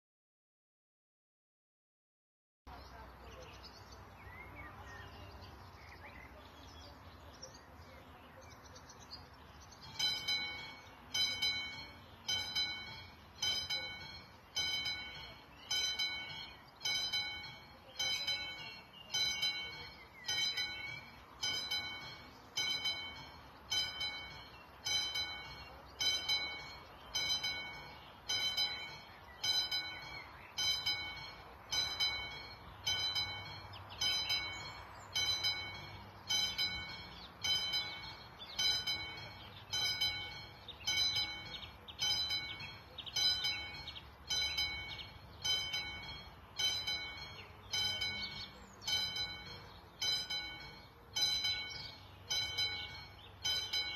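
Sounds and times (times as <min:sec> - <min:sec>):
faint birdsong: 0:02.7 - 0:53.9
level crossing warning bell: 0:06.3 - 0:53.9.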